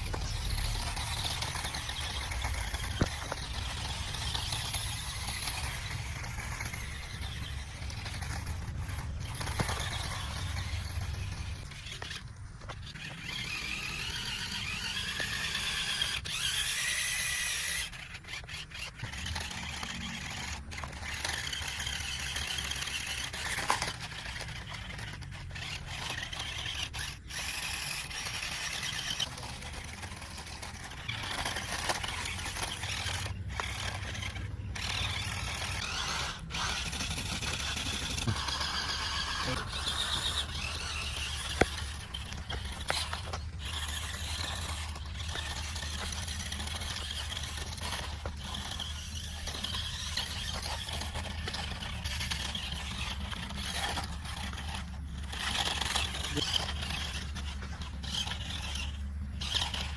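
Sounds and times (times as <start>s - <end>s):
toy car electric motor whining: 0.0s - 59.9s.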